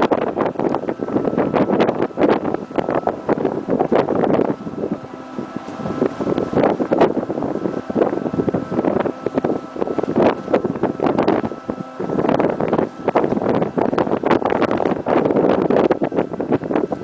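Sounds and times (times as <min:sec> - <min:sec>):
faint steady hum: 0:00.0 - 0:17.0
wind buffeting microphone: 0:00.0 - 0:17.0.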